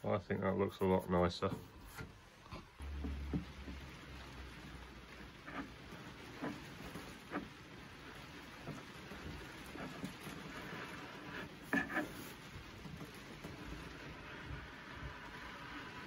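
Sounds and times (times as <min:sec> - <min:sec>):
plastic edging scraping: 0:02.8 - 0:16.0.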